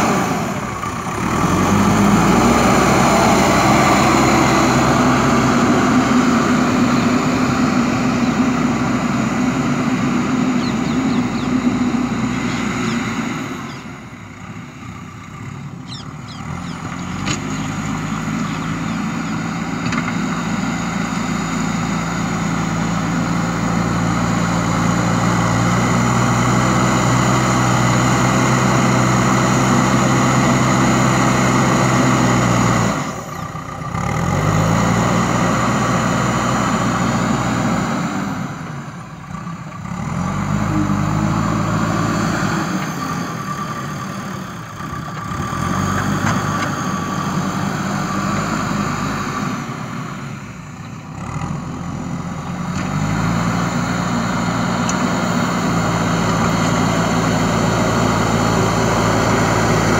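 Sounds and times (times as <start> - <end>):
diesel engine working under load: 0.0 - 59.9.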